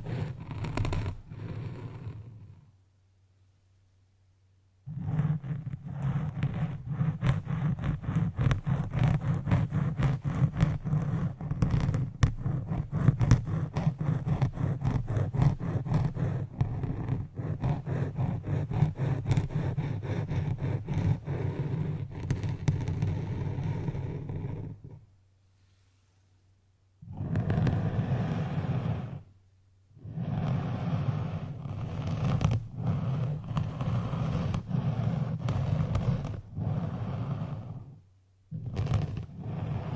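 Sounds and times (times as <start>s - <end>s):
rapid scratching and tapping: 0.0s - 2.4s, 4.9s - 25.0s, 27.1s - 29.2s, 30.2s - 37.8s, 38.6s - 39.9s.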